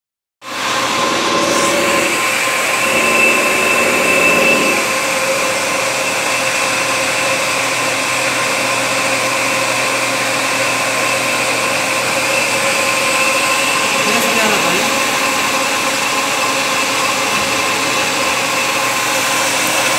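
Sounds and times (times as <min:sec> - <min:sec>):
lathe running: 0:00.5 - 0:19.9
machine whining tones: 0:00.5 - 0:19.9.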